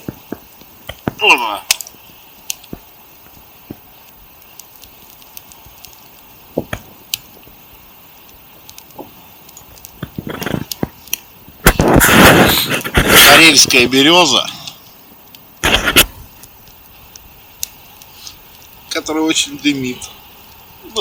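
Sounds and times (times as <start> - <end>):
campfire crackling: 0.0 - 21.0
sharp pops: 0.0 - 21.0.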